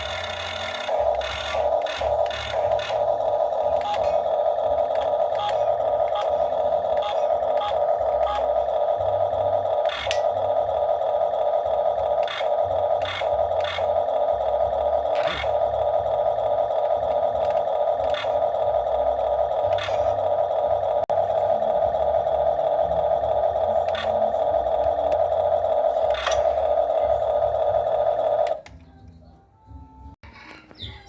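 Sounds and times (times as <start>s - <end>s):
excavator engine running: 0.0s - 30.2s.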